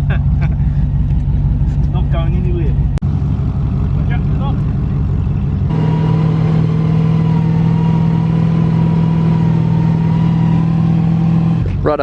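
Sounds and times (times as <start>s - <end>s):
engine running at steady revs: 0.0s - 12.0s.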